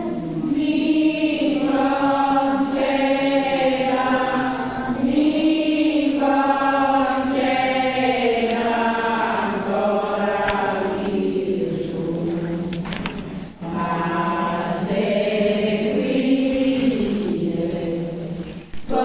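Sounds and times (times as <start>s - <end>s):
voices chanting slowly: 0.0s - 19.0s.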